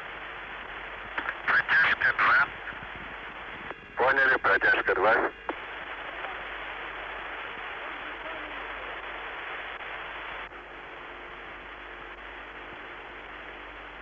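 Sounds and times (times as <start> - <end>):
faint steady hum: 0.0 - 14.0
radio channel hiss: 0.0 - 14.0.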